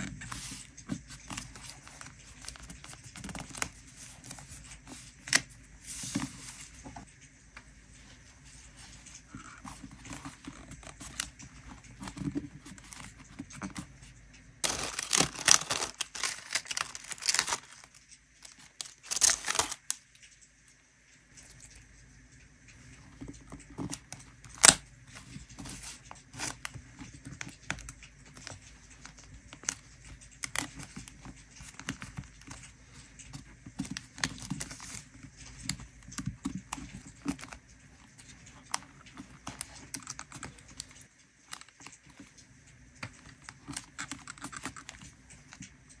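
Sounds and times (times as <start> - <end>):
paper rustling: 0.0 - 7.1, 8.0 - 20.0, 23.0 - 42.3.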